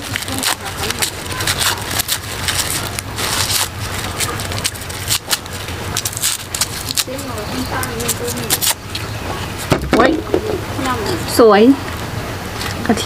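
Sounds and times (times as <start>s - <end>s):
garlic skins crackling: 0.0s - 11.0s
low steady hum: 0.0s - 13.0s.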